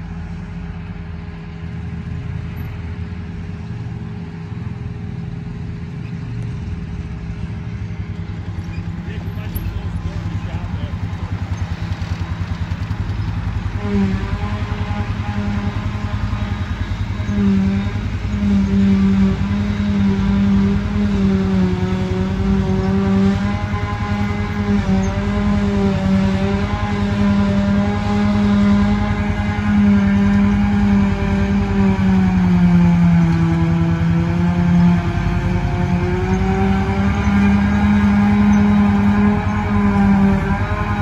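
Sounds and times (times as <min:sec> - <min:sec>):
forage harvester droning hum: 0:00.0 - 0:41.0.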